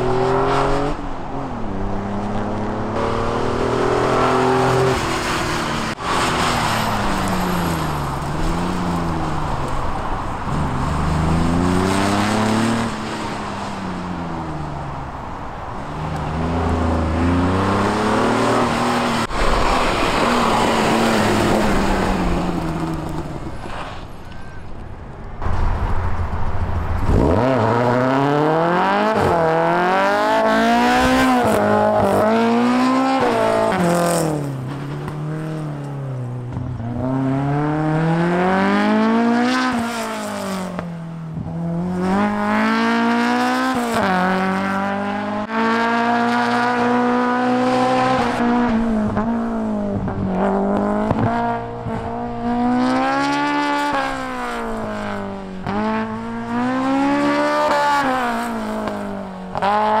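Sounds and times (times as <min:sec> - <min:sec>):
car engine revving: 0:00.0 - 0:23.6, 0:26.6 - 1:00.0.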